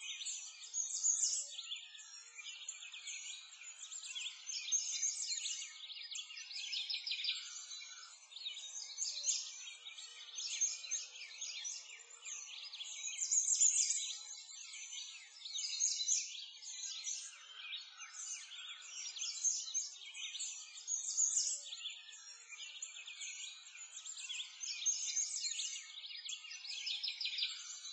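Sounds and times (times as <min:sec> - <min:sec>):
small birds chirping chorus: 0:00.0 - 0:27.9.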